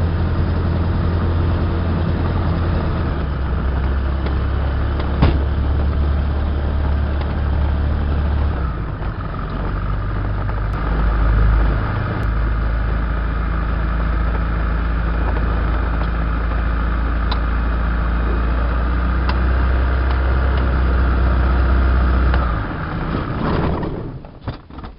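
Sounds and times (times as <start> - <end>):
aircraft engine and propeller: 0.0 - 24.3.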